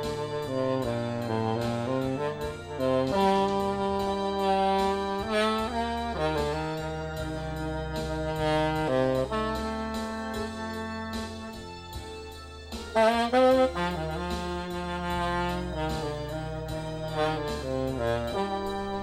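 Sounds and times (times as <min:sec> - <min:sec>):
light steady beat: 0:00.0 - 0:19.0
saxophone long held notes: 0:00.0 - 0:19.0
stepping bass line: 0:00.0 - 0:19.0.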